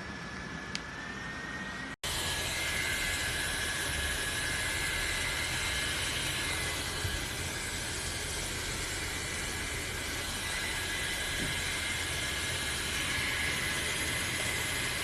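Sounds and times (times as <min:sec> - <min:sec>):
high motor whine: 0:00.0 - 0:15.0
neck fan air rush: 0:00.0 - 0:15.0.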